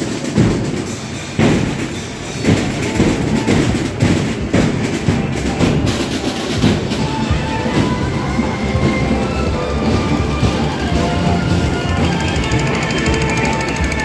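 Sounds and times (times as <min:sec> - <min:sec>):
drums beating loudly: 0:00.0 - 0:14.0.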